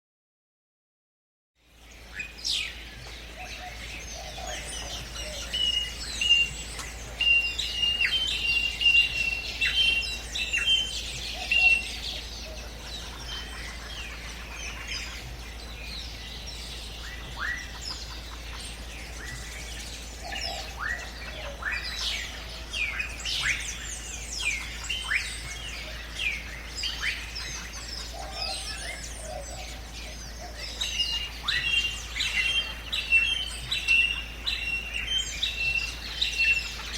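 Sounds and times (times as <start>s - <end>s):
birds calling and chirping: 1.6s - 36.9s
low steady hum: 1.6s - 36.9s.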